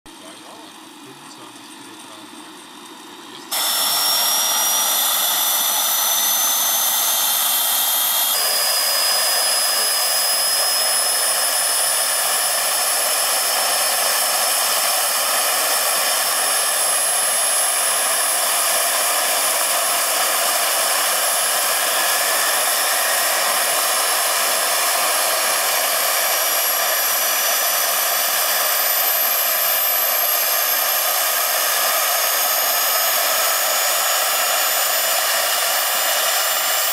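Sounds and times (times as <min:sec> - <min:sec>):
model gas turbine whine and hiss: 0:00.2 - 0:36.9.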